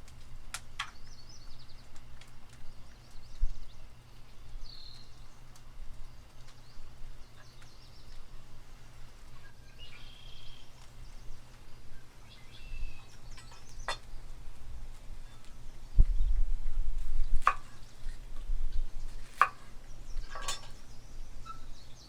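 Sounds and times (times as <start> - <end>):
steady low rumble: 0.0 - 21.4
small birds chirping and trilling: 0.8 - 22.0.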